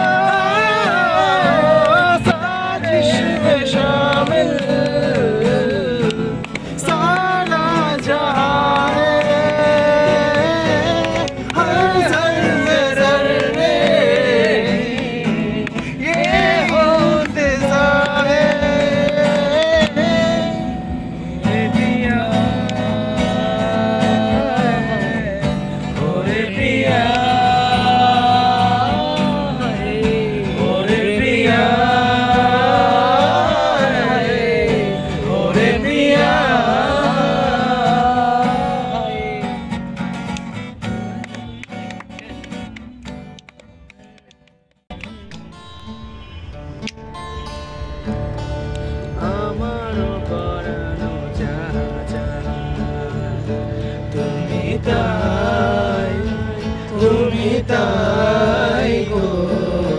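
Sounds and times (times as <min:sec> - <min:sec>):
man singing: 0:00.0 - 0:39.8, 0:49.1 - 0:59.9
acoustic guitar strumming: 0:00.0 - 0:59.9.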